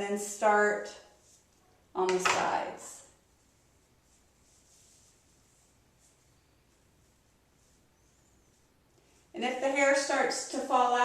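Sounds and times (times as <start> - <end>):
soft rustles: 0.8 - 11.0.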